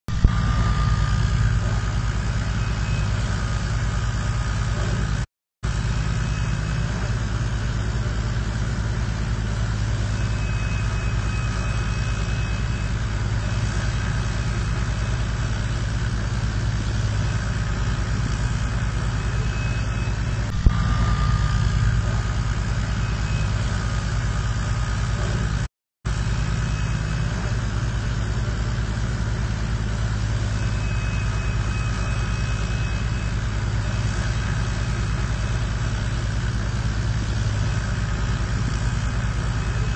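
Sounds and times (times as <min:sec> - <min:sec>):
thin machinery whines: 0:00.1 - 0:39.9
tractor diesel engine running: 0:00.1 - 0:39.9.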